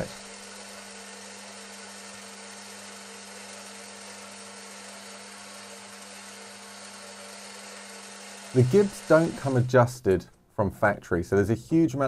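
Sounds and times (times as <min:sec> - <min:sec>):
electrical hum: 0:00.0 - 0:10.7.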